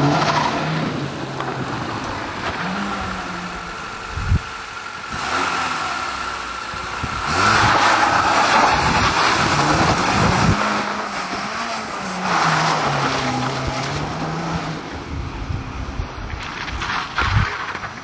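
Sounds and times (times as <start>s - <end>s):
tyres spinning on gravel: 0.0s - 14.7s, 16.2s - 18.0s
car engine revving: 0.0s - 15.2s.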